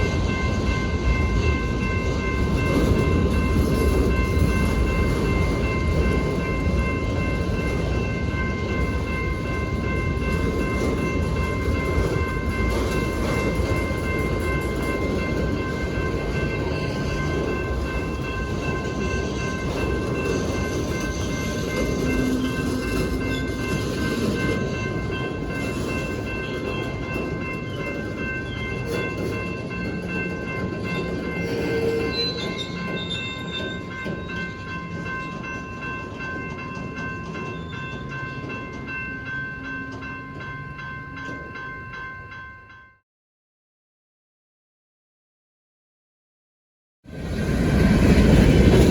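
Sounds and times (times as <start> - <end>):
train wheels rumbling on rail: 0.0 - 42.2, 47.1 - 48.9
high ringing tones: 0.0 - 43.0.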